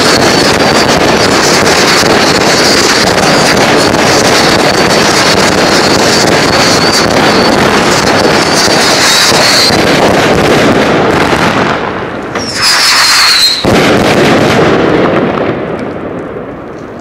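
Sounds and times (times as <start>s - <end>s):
firework batteries firing: 0.0s - 17.0s.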